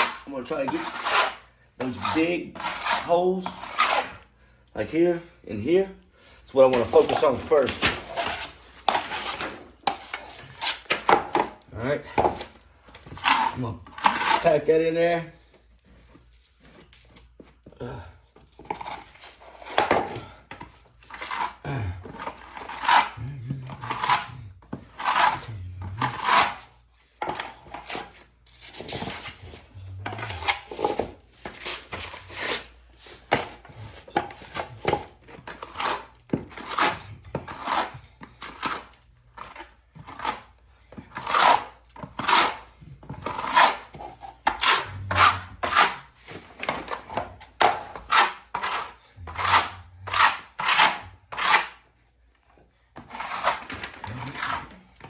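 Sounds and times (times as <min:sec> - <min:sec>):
steel knife scraping on wall: 0:00.0 - 0:04.3, 0:06.7 - 0:11.6, 0:12.2 - 0:14.9, 0:18.7 - 0:51.9, 0:53.0 - 0:55.0.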